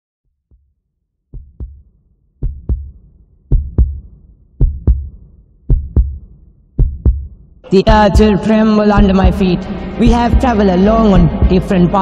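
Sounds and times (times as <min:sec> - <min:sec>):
heartbeat thumps: 0:00.4 - 0:00.7, 0:01.3 - 0:11.7.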